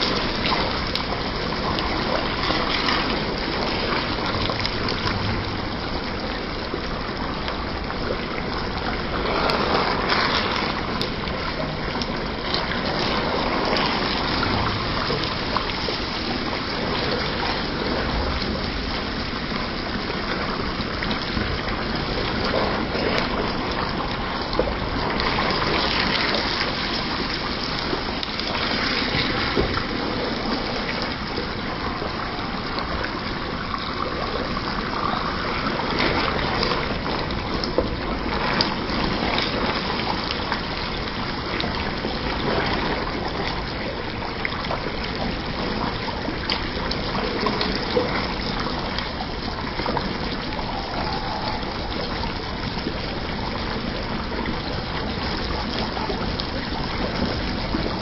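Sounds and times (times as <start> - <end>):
curry sizzling and bubbling: 0.0 - 58.0.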